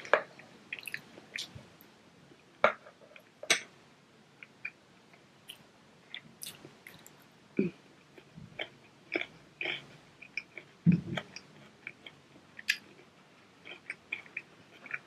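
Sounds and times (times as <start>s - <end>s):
child chewing food: 0.0s - 1.9s, 4.4s - 15.0s.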